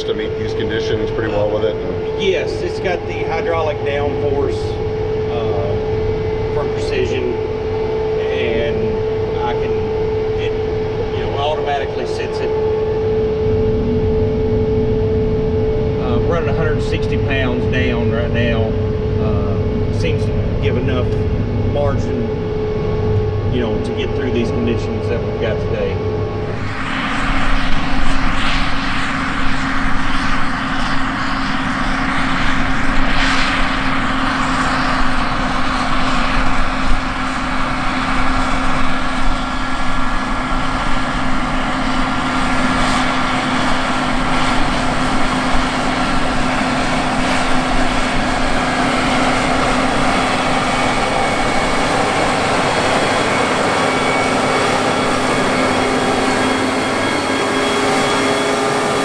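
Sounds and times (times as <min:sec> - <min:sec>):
diesel farm machinery engine drone: 0:00.0 - 0:59.0.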